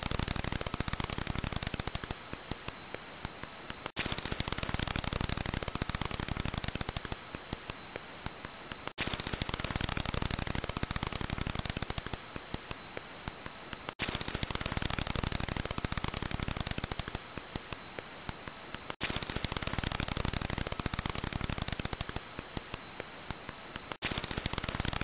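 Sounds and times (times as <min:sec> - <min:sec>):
bat echolocation clicks: 0:00.0 - 0:25.0.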